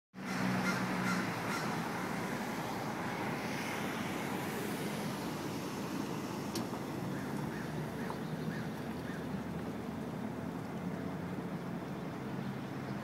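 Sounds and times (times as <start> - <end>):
city street noise: 0.2 - 13.0.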